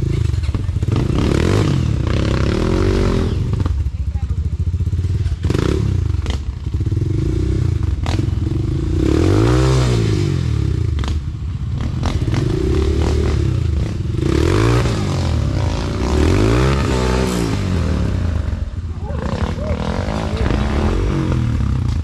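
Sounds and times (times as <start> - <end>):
dirt bike engine revving: 0.0 - 3.9, 4.8 - 22.0.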